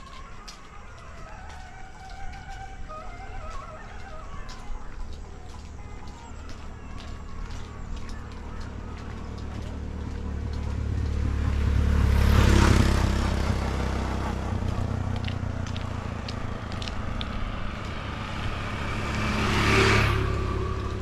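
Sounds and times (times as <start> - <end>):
vehicle passing by: 0.0 - 21.0.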